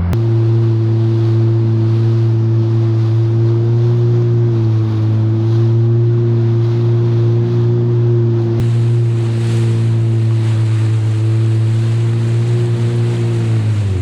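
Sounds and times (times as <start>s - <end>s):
water rushing: 0.0s - 14.0s
watercraft engine droning: 0.0s - 14.0s.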